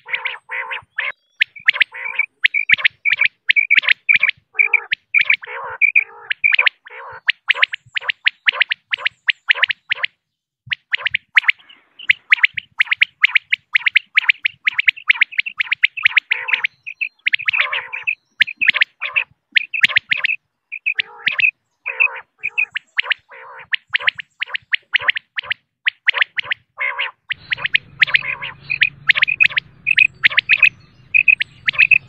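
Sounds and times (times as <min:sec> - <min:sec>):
quail calling sharp chirps: 0:00.0 - 0:32.0.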